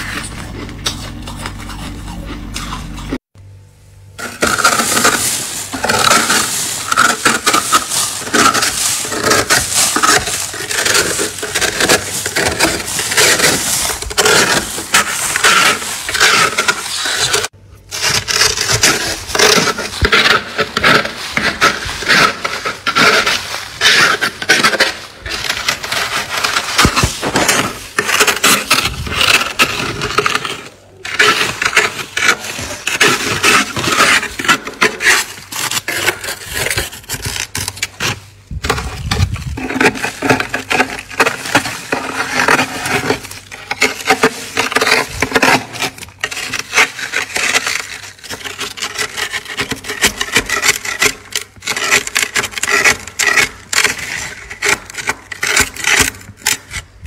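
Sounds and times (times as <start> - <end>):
scraper scraping frost: 4.2 - 57.0.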